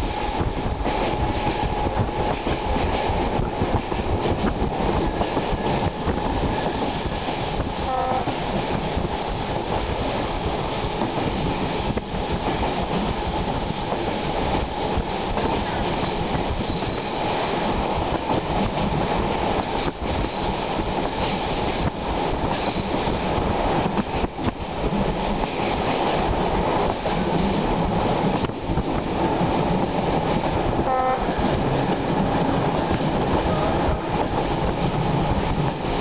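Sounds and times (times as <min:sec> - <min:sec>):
train wheels rumbling on rails: 0:00.0 - 0:36.0
faint clickety-clack: 0:00.1 - 0:36.0.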